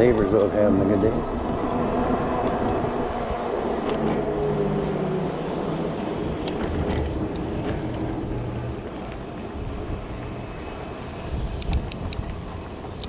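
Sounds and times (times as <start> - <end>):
wind buffeting microphone: 0.0 - 13.0
tires rumbling on bumpy road: 1.1 - 13.0.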